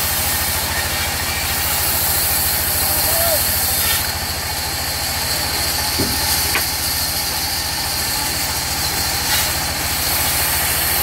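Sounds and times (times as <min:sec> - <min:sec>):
band saw running: 0:00.0 - 0:11.0.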